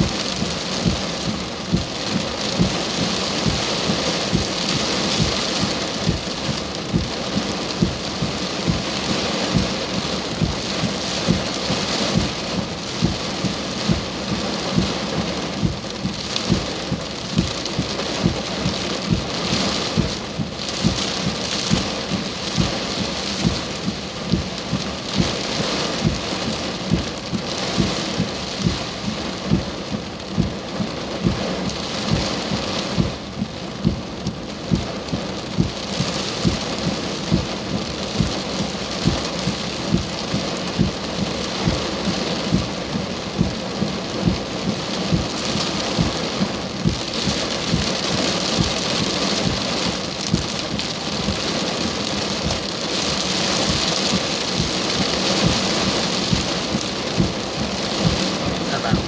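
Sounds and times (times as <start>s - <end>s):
heavy rain pouring: 0.0s - 59.0s
raindrops hitting near microphone: 0.0s - 59.0s.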